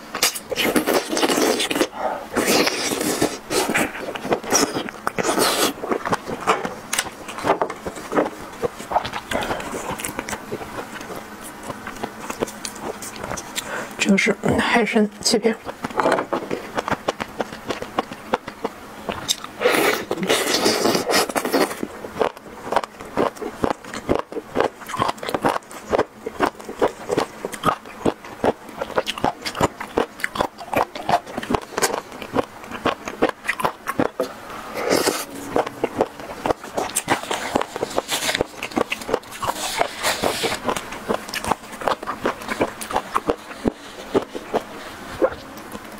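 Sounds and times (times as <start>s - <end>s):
wet chewing and mouth smacks: 0.1s - 13.7s, 15.6s - 45.9s.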